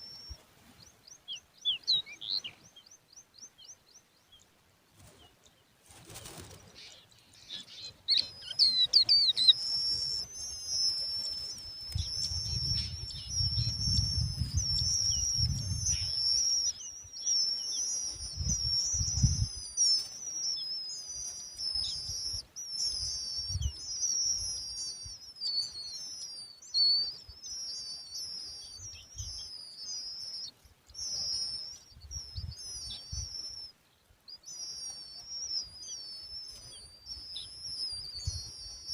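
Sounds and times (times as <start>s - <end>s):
chicks begging chirps: 6.0s - 38.9s.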